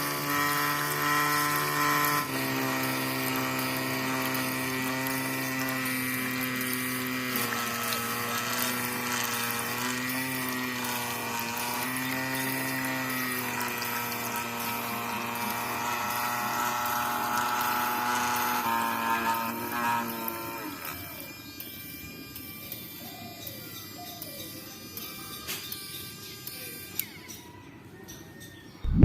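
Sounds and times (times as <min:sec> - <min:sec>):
small water pump motor whining: 0:00.0 - 0:27.8.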